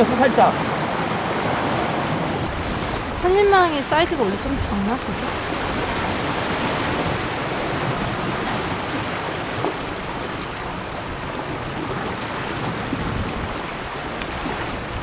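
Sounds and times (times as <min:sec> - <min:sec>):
sea washing against rocks: 0:00.0 - 0:15.0
wind buffeting microphone: 0:00.0 - 0:15.0.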